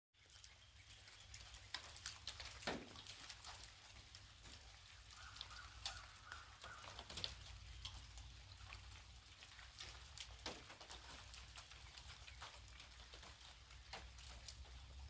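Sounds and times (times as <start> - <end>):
ice pattering on ground: 0.2 - 15.0.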